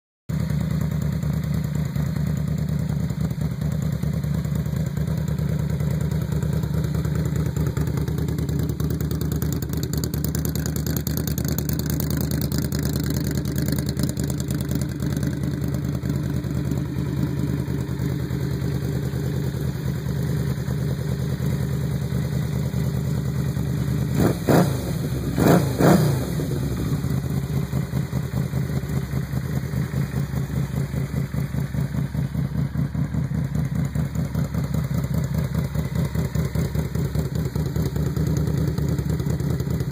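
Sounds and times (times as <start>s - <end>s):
motorcycle engine idling and revving: 0.3s - 39.9s.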